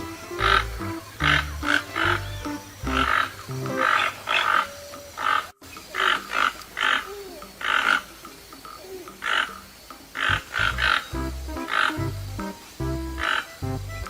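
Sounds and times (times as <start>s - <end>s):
toucan calling: 0.0s - 14.0s.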